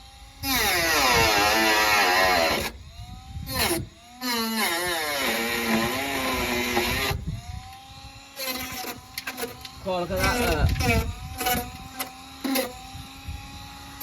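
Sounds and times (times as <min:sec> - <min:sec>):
rotary tool cutting metal: 0:00.4 - 0:14.0.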